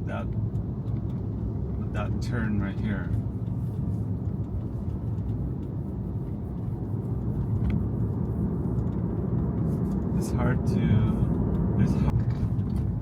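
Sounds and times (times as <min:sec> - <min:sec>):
passing traffic: 0:00.0 - 0:13.0
tyre and road noise: 0:00.0 - 0:13.0.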